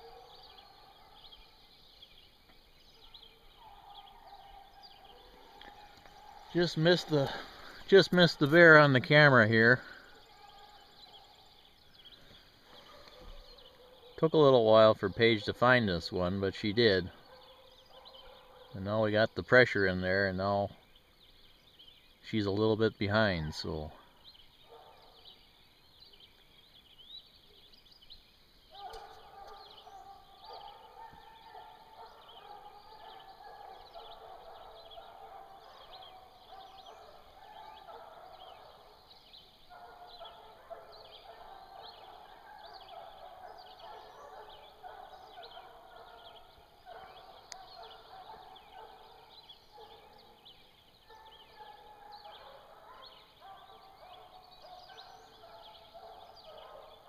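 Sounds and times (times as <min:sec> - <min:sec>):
distant hounds baying: 0:00.0 - 0:27.8, 0:28.6 - 0:57.0.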